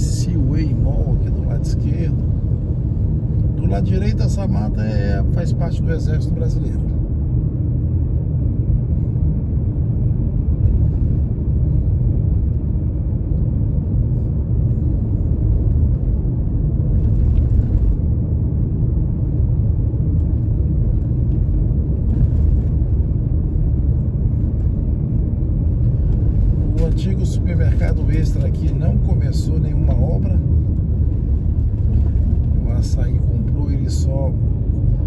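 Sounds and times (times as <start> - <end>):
car road rumble from cabin: 0.0 - 35.0.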